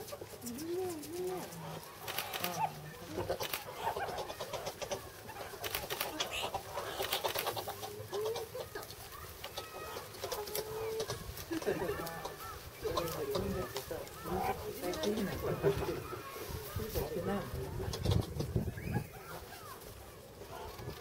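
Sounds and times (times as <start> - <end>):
meerkats clicking chatter: 0.0 - 19.8
animals scuffling: 0.0 - 21.0.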